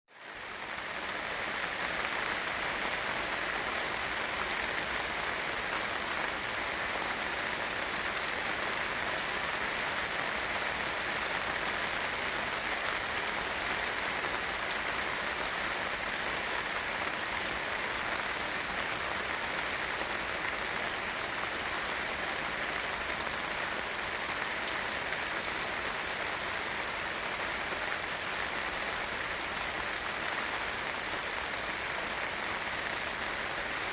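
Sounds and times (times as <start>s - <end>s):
rain drumming on tarp: 0.1s - 33.9s.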